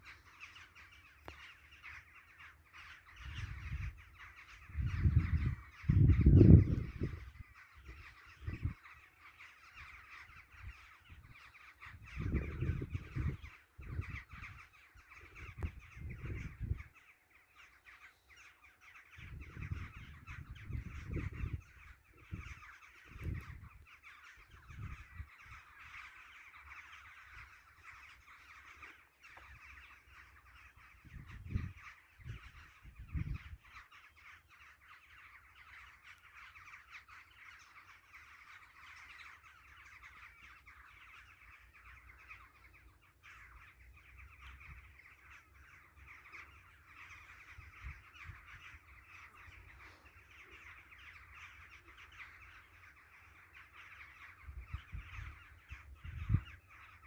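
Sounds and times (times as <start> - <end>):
flock of birds calling: 0.0 - 57.0.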